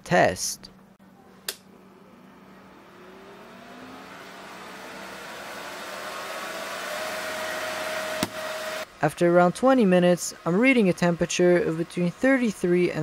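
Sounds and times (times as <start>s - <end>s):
cooling fan whirring: 0.0s - 13.0s
steady low hum: 0.8s - 13.0s.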